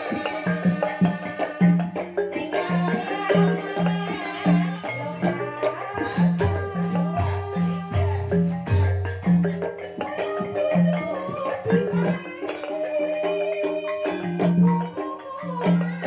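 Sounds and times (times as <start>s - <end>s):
tuned percussion and drums: 0.0s - 16.0s.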